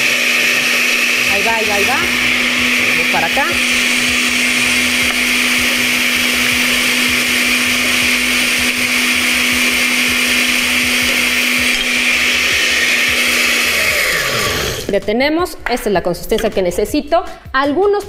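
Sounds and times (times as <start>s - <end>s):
blender running: 0.0s - 15.0s.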